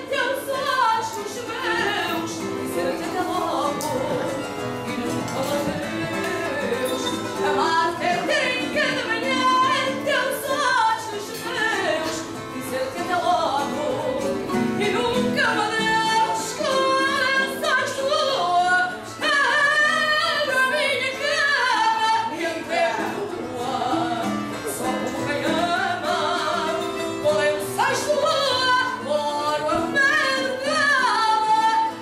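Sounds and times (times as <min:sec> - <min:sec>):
guitars playing: 0:00.0 - 0:32.0
woman singing: 0:00.0 - 0:32.0.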